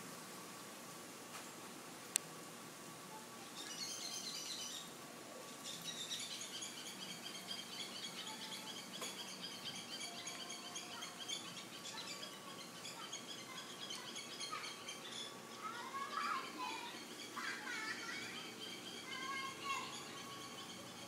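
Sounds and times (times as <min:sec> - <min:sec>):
birds chirping: 0:03.4 - 0:21.0.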